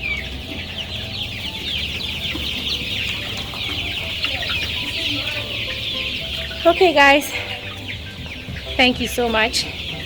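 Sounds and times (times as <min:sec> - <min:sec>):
chicks peeping and cheeping: 0:00.0 - 0:10.0.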